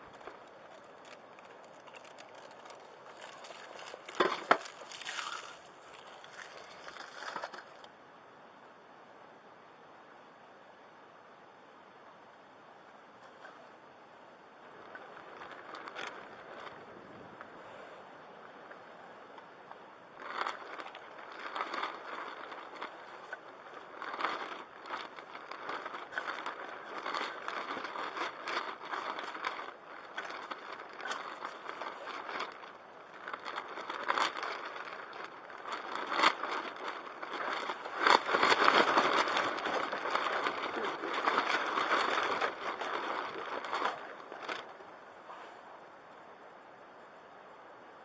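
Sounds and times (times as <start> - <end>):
rustling and crackling: 0.0 - 7.9, 12.9 - 47.2.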